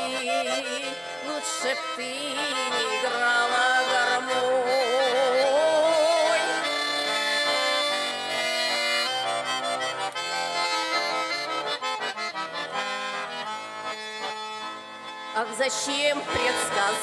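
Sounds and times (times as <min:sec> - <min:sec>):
accordion playing folk music: 0:00.0 - 0:17.0.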